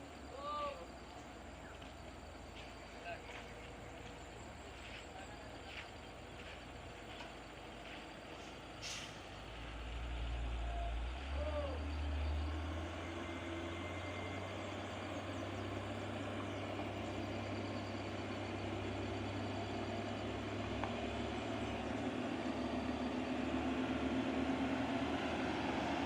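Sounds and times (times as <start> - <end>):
heavy truck engine droning: 0.0 - 26.0.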